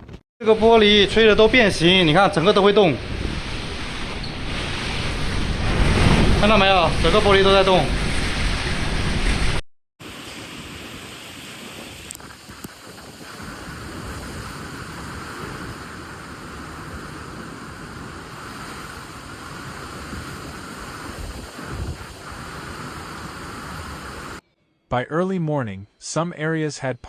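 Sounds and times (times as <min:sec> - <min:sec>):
wind rushing: 0:00.6 - 0:24.4.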